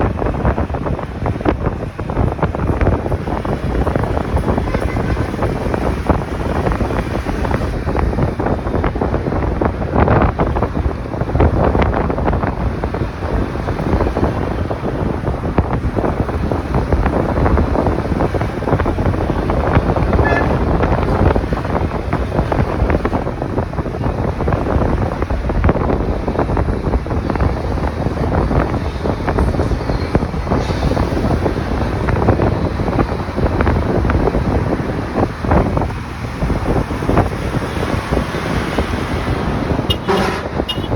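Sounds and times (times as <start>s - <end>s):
road noise: 0.0s - 40.9s
wind buffeting microphone: 0.0s - 40.9s.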